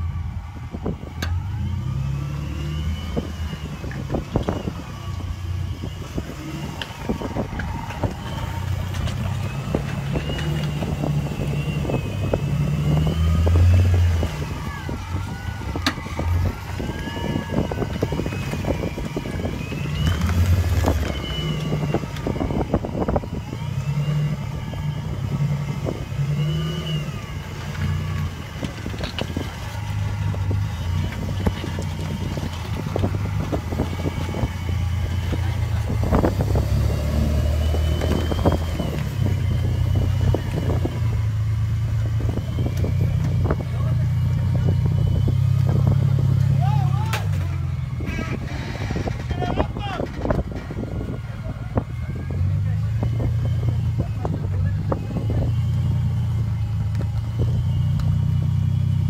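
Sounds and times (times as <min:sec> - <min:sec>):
off-road vehicle engine revving: 0:00.0 - 0:59.0
wavering whine: 0:00.0 - 0:59.0.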